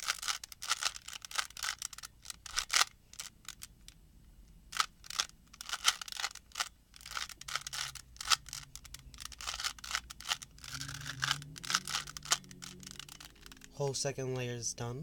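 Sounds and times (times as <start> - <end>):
puzzle cube clicking and scraping: 0.0 - 3.9, 4.7 - 14.0.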